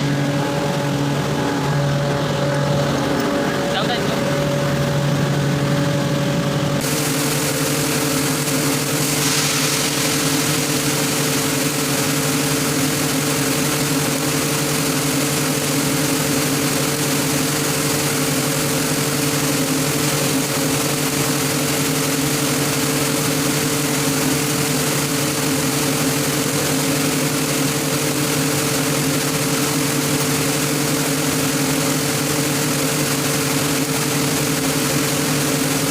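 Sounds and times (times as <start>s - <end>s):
air compressor humming: 0.0s - 35.9s.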